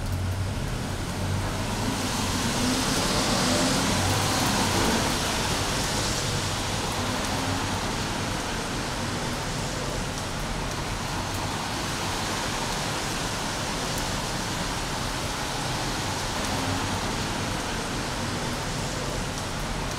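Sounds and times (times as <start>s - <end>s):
steady rain falling: 0.0s - 19.9s.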